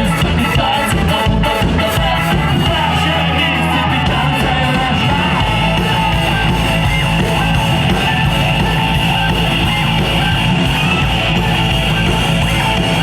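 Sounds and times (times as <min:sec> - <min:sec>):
electric guitar: 0:00.0 - 0:13.0
live rock band playing: 0:00.0 - 0:13.0.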